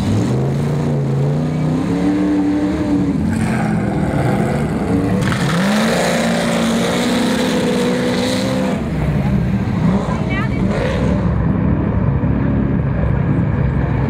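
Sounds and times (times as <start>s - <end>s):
engines revving hard: 0.0s - 14.0s.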